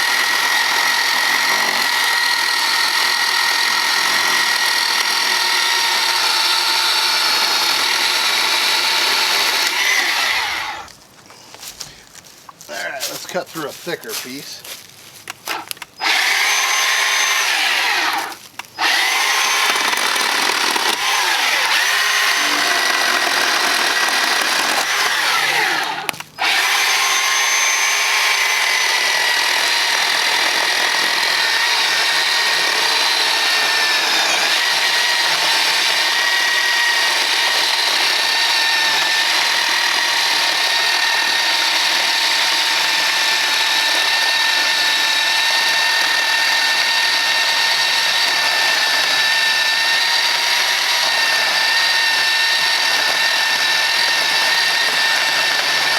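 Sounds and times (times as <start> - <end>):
electric chainsaw cutting log: 0.0 - 10.9, 15.2 - 55.9.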